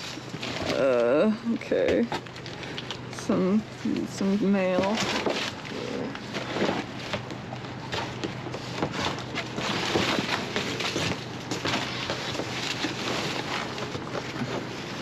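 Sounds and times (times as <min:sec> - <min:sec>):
rummaging through trash: 0:00.0 - 0:15.0.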